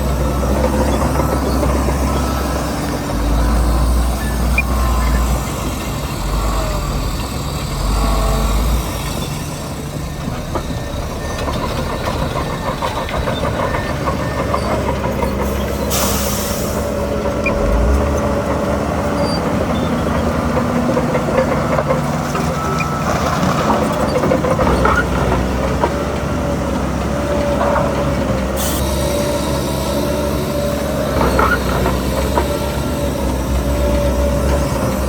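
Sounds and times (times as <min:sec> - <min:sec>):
bulldozer diesel engine running: 0:00.0 - 0:35.0
steel tracks clanking and squeaking: 0:00.0 - 0:35.0.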